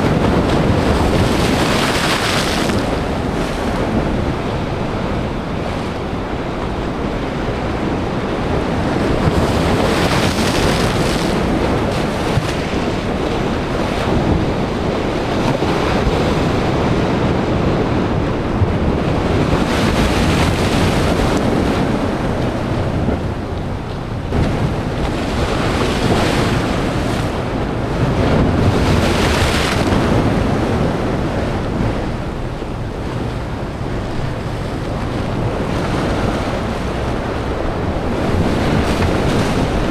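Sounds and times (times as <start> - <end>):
waves breaking against rocks: 0.0 - 39.9.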